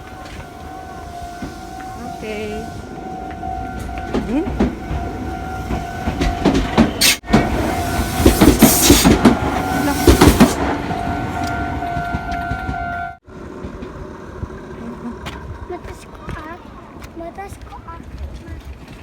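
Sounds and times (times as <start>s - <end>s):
train wheel clatter: 0.0s - 19.0s.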